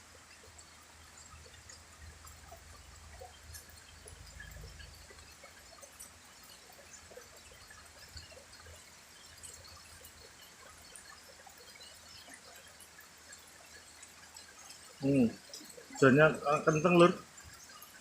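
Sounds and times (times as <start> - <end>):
raindrops ticking and splashing: 0.0 - 18.0.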